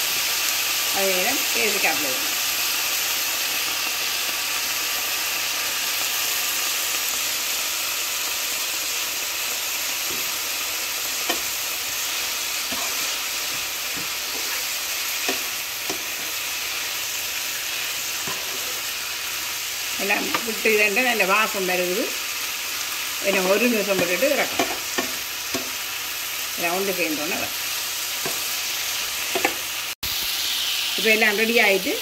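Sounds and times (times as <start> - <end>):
vegetables sizzling in frying pan: 0.0 - 32.0.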